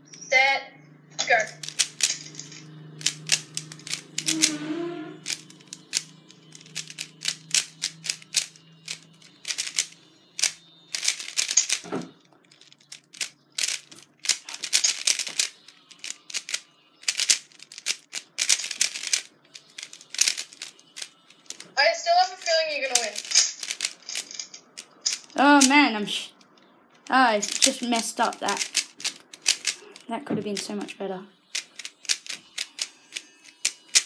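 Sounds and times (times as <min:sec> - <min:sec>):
puzzle cube layers clicking: 0:01.3 - 0:04.6, 0:05.2 - 0:21.8, 0:22.4 - 0:25.8, 0:26.4 - 0:34.0.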